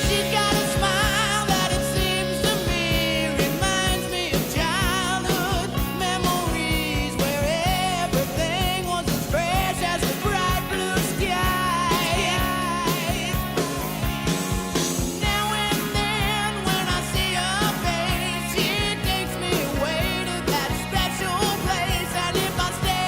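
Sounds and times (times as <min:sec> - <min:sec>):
pop song with singing: 0:00.0 - 0:23.0
steady drum beat: 0:00.0 - 0:23.0.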